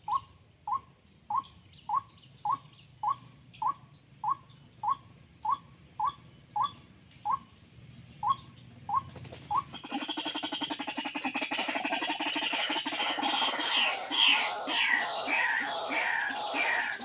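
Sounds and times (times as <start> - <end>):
bird rapid pulsing croaking call: 0.0 - 17.0.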